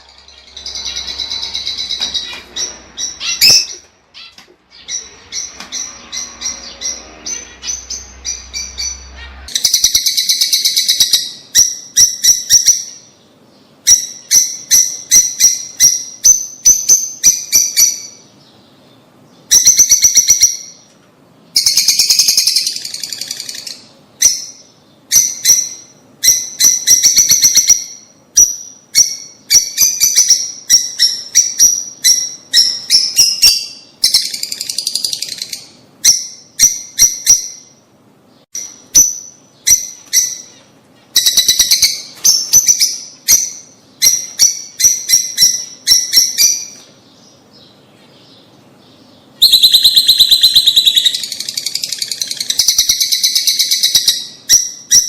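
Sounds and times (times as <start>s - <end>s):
birds chirping shrilly: 0.0s - 20.8s, 21.5s - 55.0s.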